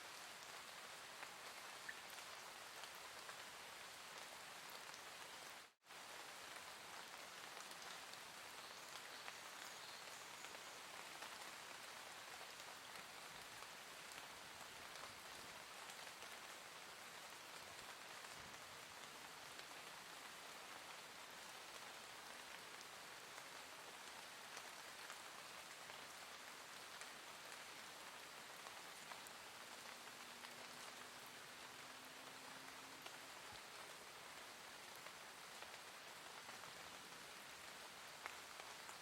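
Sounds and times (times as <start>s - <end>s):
soft steady rain: 0.0s - 39.0s
faint raindrop ticks: 0.1s - 39.0s.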